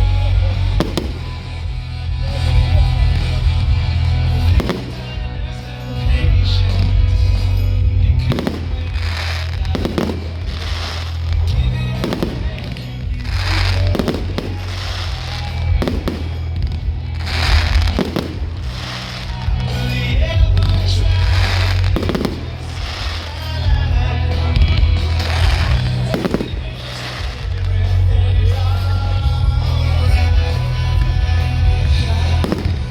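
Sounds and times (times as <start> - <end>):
music with heavy bass: 0.0 - 32.9
fireworks bangs: 0.5 - 30.3, 31.8 - 32.9.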